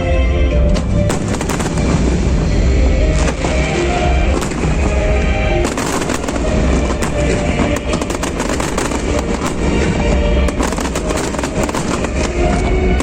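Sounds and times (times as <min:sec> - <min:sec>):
music: 0:00.0 - 0:13.0
fireworks bursting and crackling: 0:01.0 - 0:13.0.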